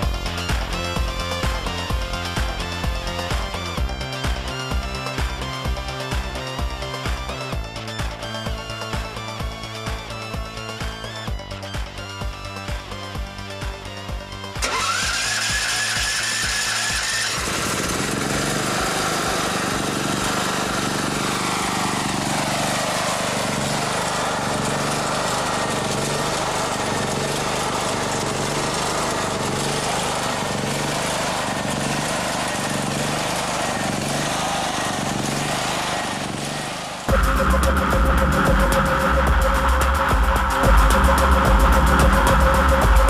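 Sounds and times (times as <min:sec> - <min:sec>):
background music: 0:00.0 - 0:35.4, 0:37.1 - 0:43.0
petrol generator engine running: 0:00.0 - 0:43.0.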